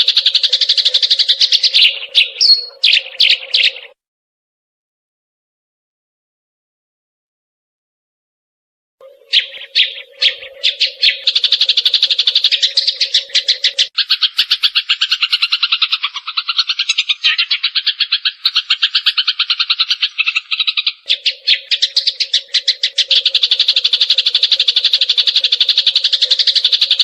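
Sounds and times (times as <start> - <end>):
sparrows chirping rapidly: 0.0 - 4.0, 9.0 - 27.0.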